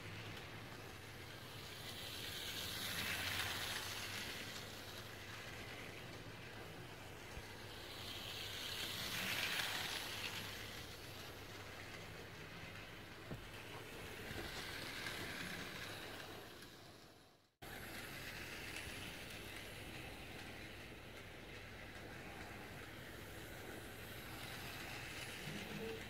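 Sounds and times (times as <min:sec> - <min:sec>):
toy train motor whirring: 0:00.0 - 0:26.0.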